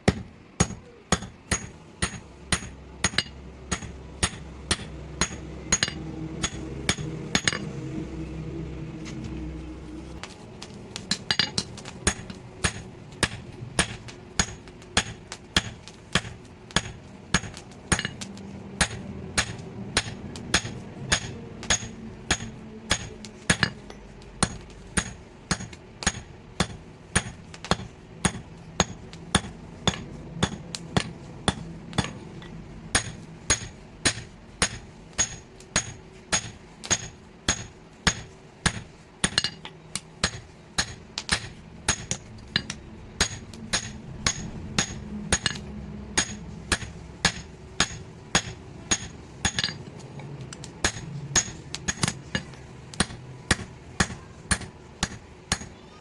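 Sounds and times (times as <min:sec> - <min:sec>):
hammer forging metal: 0:00.0 - 0:07.8, 0:10.2 - 0:50.0, 0:50.6 - 0:56.0.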